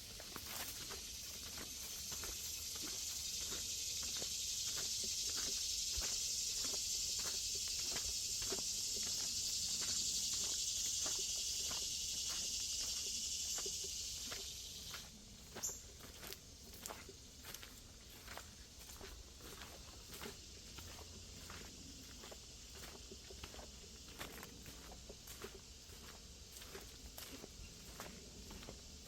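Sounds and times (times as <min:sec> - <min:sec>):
footsteps on a trail: 0:00.0 - 0:29.0
high insect drone: 0:00.0 - 0:29.0.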